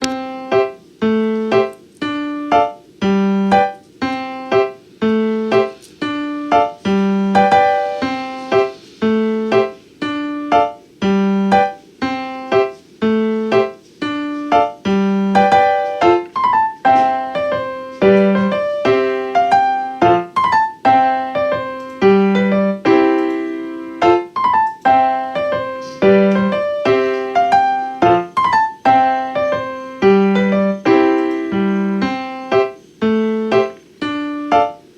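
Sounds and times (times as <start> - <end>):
piano music: 0.0 - 34.9.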